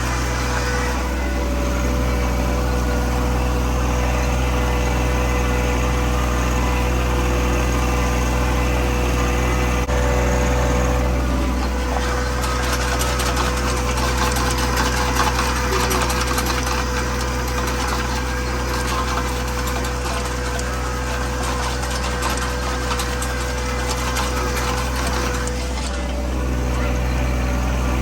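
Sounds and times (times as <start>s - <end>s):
steady whine: 0.0s - 28.0s
vehicle engine running: 0.0s - 28.0s.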